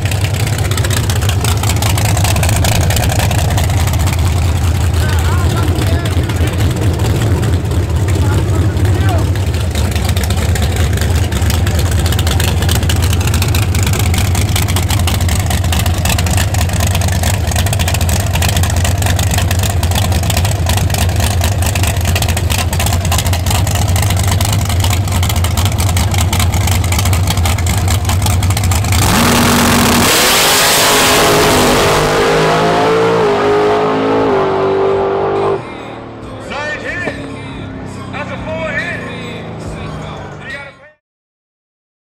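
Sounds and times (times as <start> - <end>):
drag car engine: 0.0 - 41.0.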